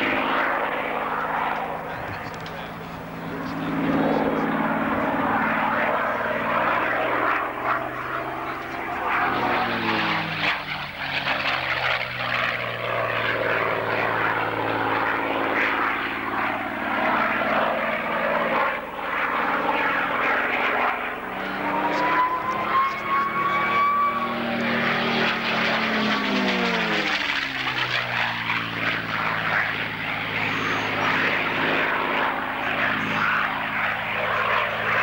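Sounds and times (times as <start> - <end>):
propeller aircraft engine drone: 0.0 - 35.0.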